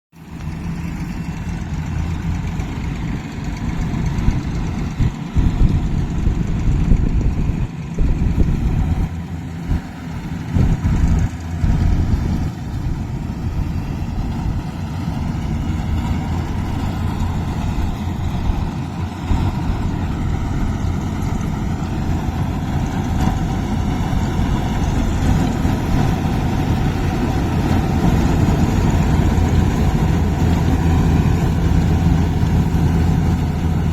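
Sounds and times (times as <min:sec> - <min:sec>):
diesel engine humming: 0:00.2 - 0:33.9.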